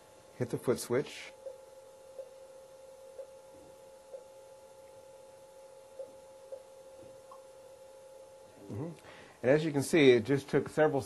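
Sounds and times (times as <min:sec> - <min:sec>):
faint steady tone: 0:00.0 - 0:10.9.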